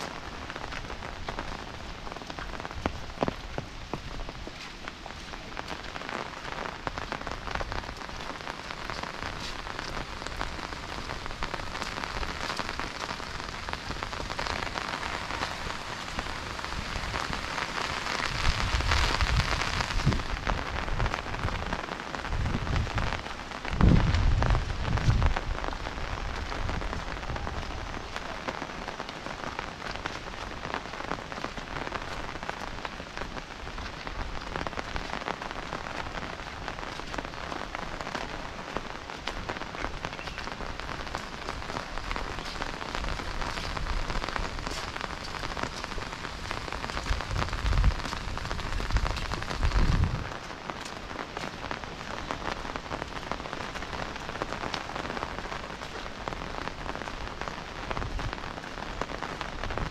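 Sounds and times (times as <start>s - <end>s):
rain on leaves and brick path: 0.0s - 59.9s.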